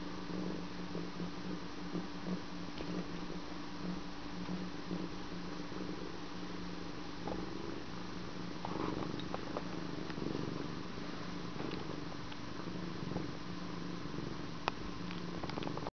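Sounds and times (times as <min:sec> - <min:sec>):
cat purring: 0:00.0 - 0:15.9.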